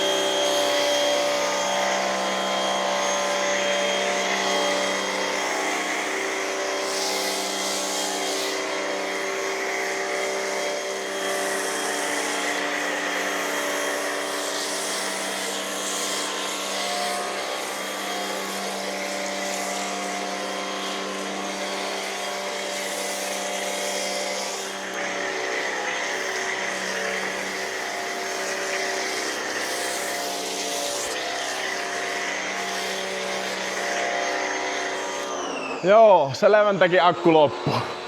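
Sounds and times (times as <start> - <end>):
foam sprayer hissing: 0.0 - 38.0
pressure washer motor hum: 0.0 - 38.0.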